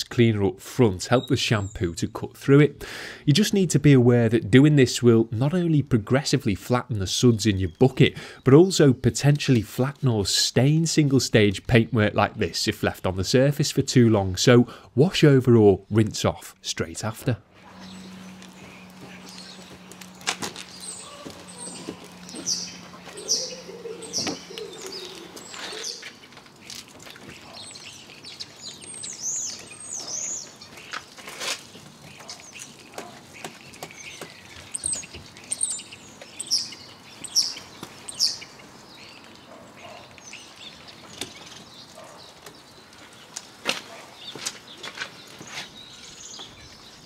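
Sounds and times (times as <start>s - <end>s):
birds chirping: 0.2s - 14.8s, 15.5s - 47.0s.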